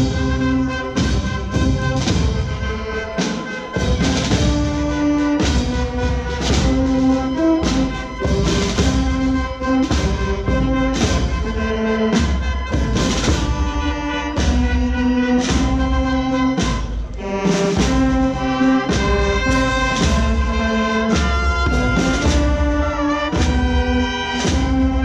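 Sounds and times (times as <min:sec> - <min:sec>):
brass band playing slow march: 0:00.0 - 0:25.0
drum beat: 0:00.0 - 0:25.0.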